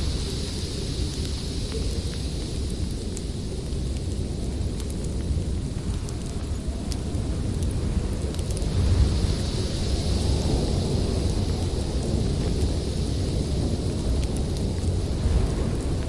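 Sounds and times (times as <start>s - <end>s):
storm wind blowing hard: 0.0s - 16.0s
wood fire crackling and popping: 0.0s - 16.0s.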